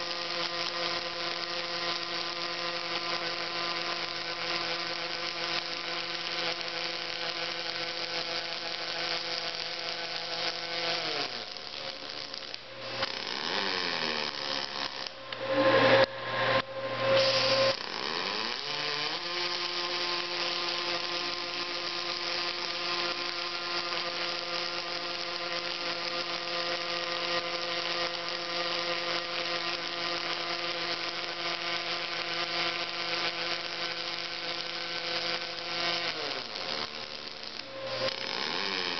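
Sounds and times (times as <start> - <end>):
welding machinery motor whine: 0.0 - 16.0, 17.0 - 38.9.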